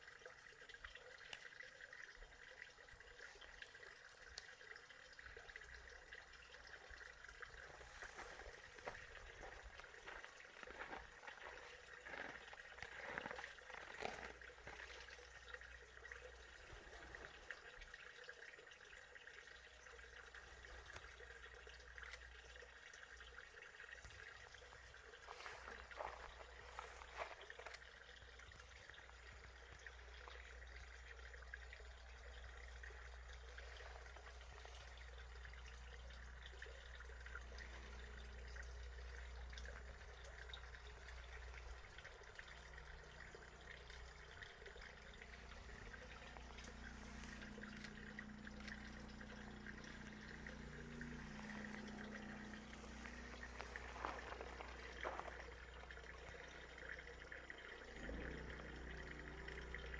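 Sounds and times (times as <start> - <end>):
faint trickling water: 0.0 - 59.9
low steady hum: 0.0 - 59.9.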